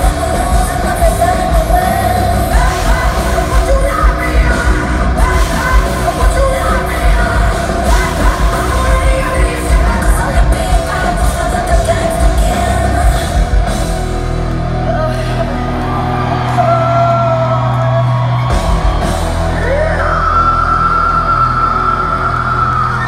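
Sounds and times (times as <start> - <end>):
live heavy metal band: 0.0 - 23.0.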